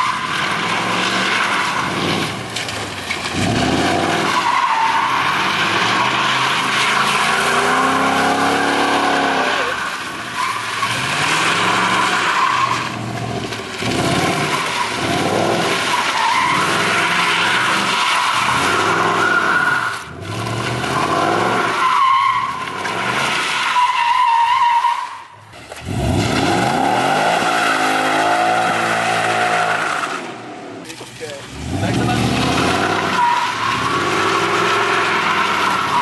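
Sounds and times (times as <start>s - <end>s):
car engine revving: 0.0s - 23.8s, 25.7s - 36.0s.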